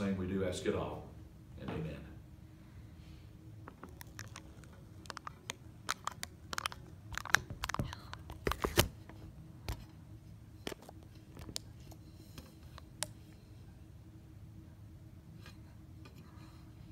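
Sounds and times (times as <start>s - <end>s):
faint low hum: 0.0s - 16.9s.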